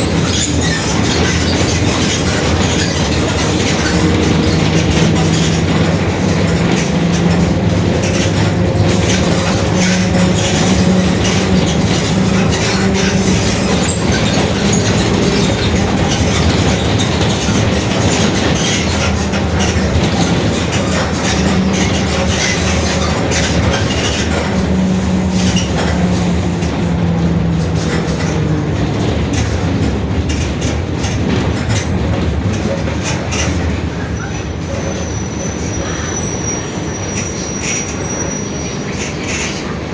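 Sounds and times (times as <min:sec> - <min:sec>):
rattling and clatter: 0:00.0 - 0:35.0
bus differential droning: 0:00.0 - 0:39.9.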